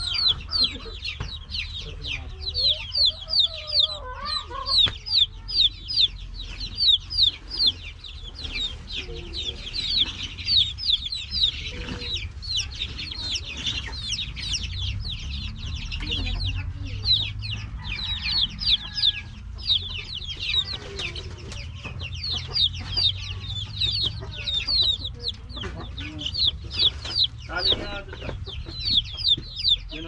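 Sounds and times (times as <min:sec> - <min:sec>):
chicks peeping: 0:00.0 - 0:30.0
steady low rumble: 0:00.0 - 0:30.0.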